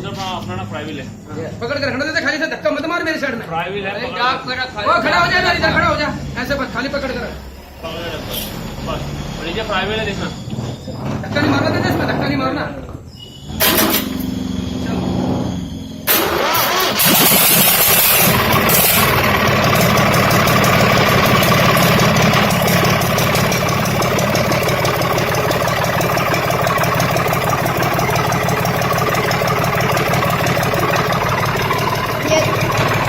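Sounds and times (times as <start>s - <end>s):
generator engine starting and running: 4.0s - 33.0s.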